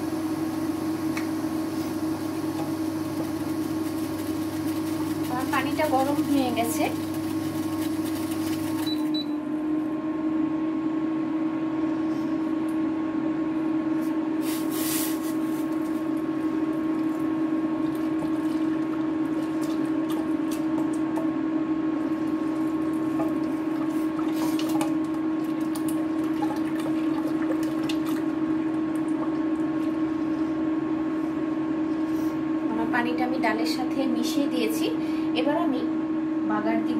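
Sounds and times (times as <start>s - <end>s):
induction cooktop hum: 0.0s - 36.9s.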